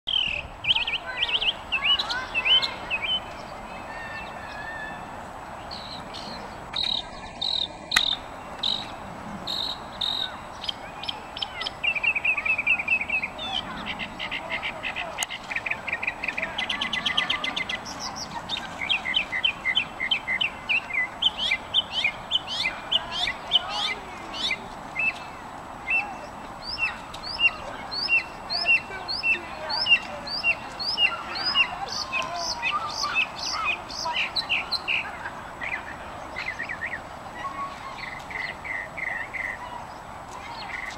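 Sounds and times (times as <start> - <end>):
mockingbird singing: 0.1 - 40.9.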